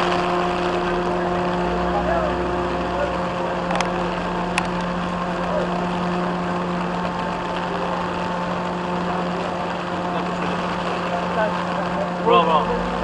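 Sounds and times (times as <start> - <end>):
heavy rain hiss: 0.0 - 13.0
truck engine running: 0.0 - 13.0.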